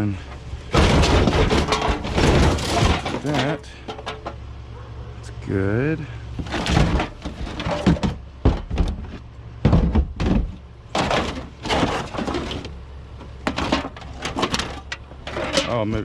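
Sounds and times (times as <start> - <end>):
items thunking and knocking: 0.3 - 4.5, 6.3 - 16.0.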